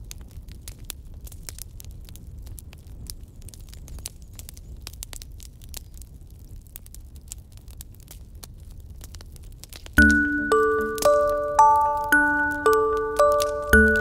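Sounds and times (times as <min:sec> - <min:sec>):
sharp crackles and clicks: 0:00.0 - 0:14.0.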